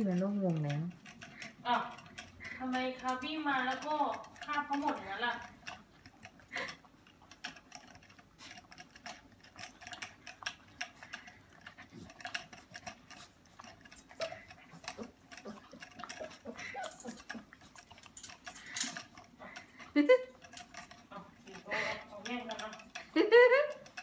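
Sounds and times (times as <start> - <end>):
puppies lapping at metal water spout: 0.0 - 24.0.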